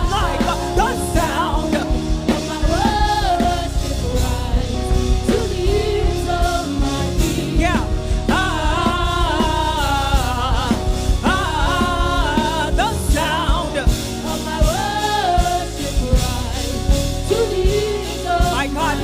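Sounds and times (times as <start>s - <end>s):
gospel band with drum kit: 0.0s - 19.0s
singer holding long bending notes: 0.0s - 19.0s.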